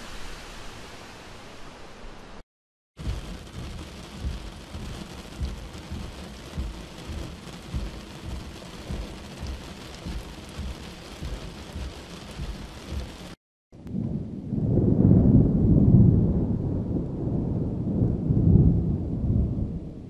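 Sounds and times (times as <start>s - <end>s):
wind and rain rushing: 0.0s - 2.4s, 3.0s - 20.0s
low rumbles: 3.0s - 20.0s.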